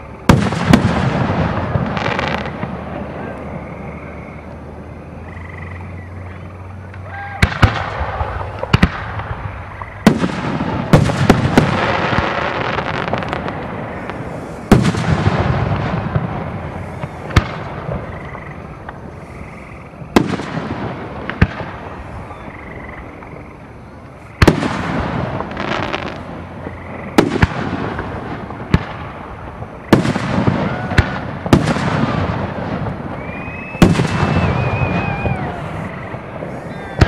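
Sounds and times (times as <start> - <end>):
rolling echo and crackle: 0.0 - 37.0.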